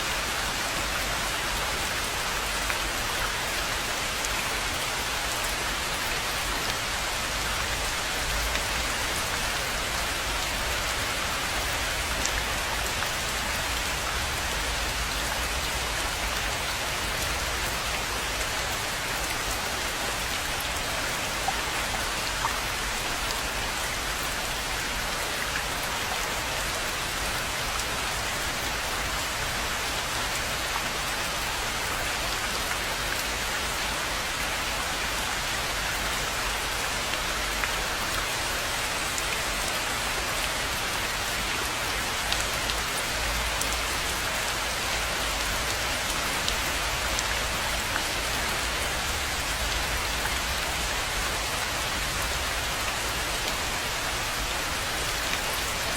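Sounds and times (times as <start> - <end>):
rain falling on a pond: 0.0 - 55.9.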